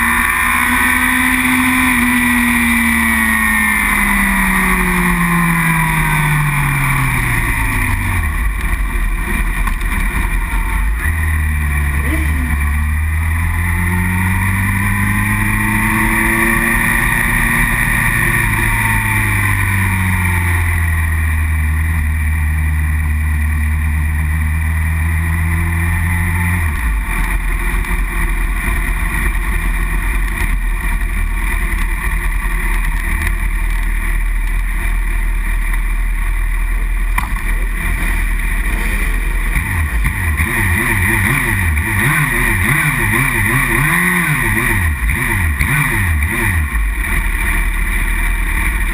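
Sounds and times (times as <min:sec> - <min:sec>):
motorcycle engine running hard: 0:00.0 - 0:48.9.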